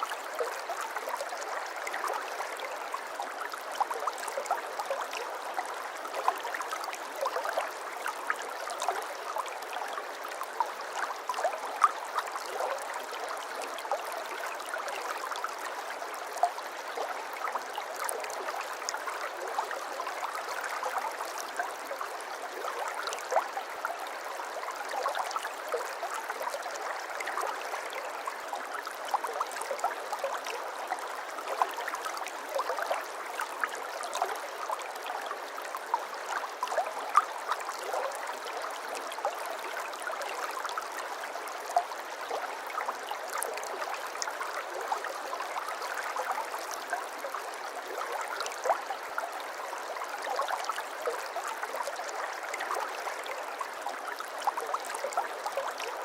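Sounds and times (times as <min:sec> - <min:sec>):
shallow stream babbling: 0:00.0 - 0:56.0.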